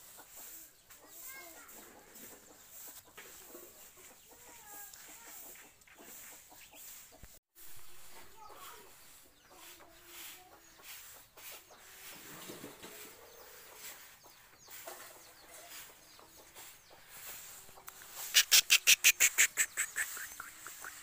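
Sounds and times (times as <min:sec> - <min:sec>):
distant chickens clucking: 0:00.0 - 0:21.0.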